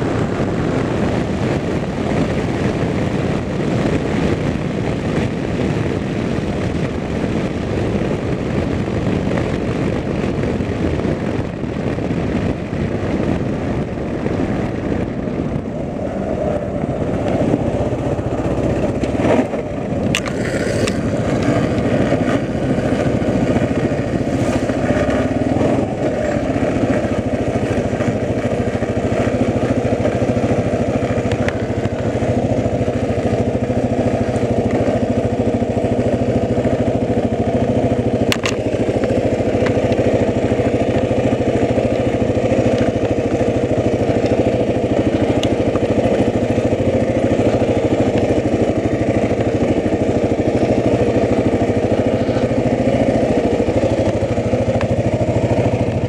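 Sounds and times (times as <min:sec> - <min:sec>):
motorcycle engine: 0:00.0 - 0:56.0
road noise: 0:00.0 - 0:56.0
wind noise: 0:00.0 - 0:56.0.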